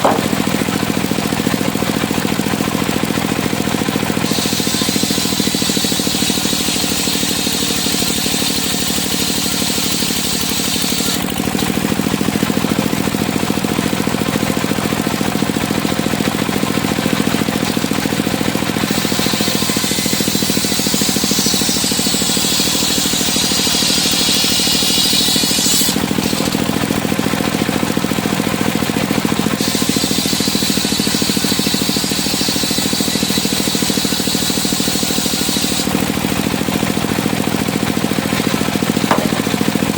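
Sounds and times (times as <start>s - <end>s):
saw blade whining through wood: 0.0s - 15.2s, 15.8s - 39.9s
sawmill engine running: 0.0s - 39.9s.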